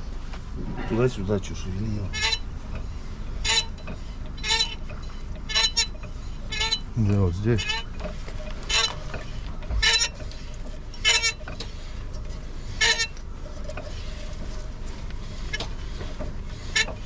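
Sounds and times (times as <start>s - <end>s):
wheel squeaking: 0.9s - 17.0s.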